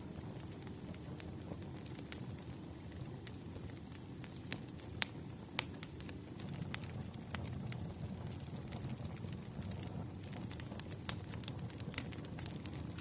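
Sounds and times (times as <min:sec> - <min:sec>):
low rumble of burning logs: 0:00.0 - 0:13.0
wood fire crackling and popping: 0:00.0 - 0:13.0.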